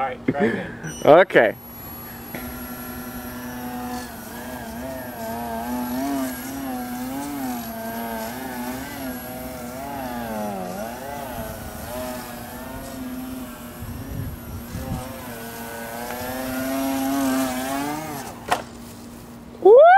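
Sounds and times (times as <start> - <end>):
model airplane motor whine: 0.9 - 19.3.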